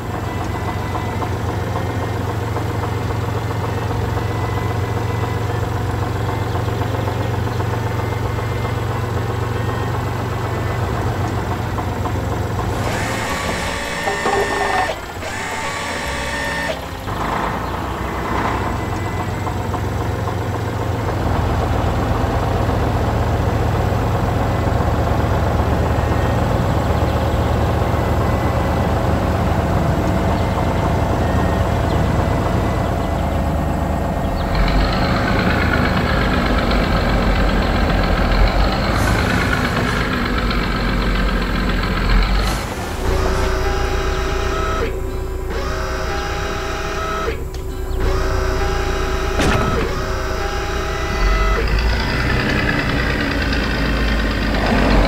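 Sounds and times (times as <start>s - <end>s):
heavy vehicle engine running: 0.0s - 55.0s.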